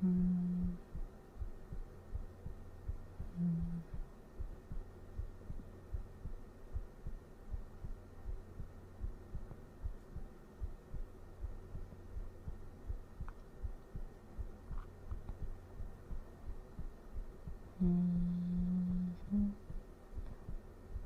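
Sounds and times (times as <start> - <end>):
person humming low note: 0.0 - 13.8, 15.4 - 21.0
heartbeat thumps: 0.0 - 21.0.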